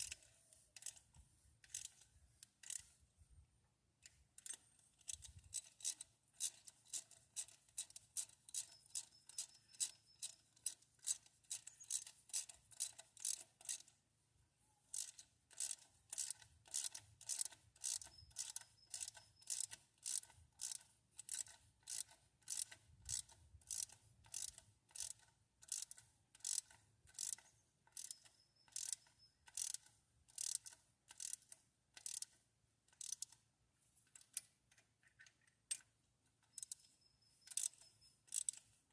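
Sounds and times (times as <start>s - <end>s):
ratchet wrench clicking: 0.0s - 3.0s, 4.0s - 13.9s, 14.9s - 33.4s, 34.2s - 36.9s, 37.5s - 38.7s.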